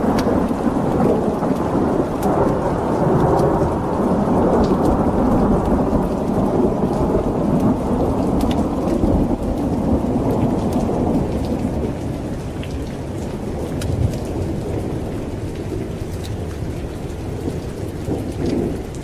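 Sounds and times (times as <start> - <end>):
heavy rain: 0.0 - 19.0
rolling thunder: 0.0 - 19.0.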